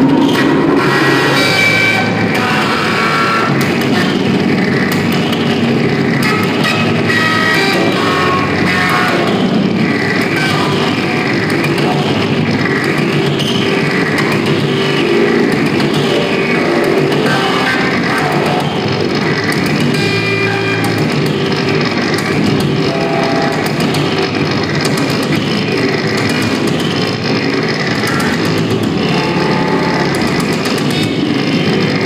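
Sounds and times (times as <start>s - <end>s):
harsh distorted noise music: 0.0s - 32.0s.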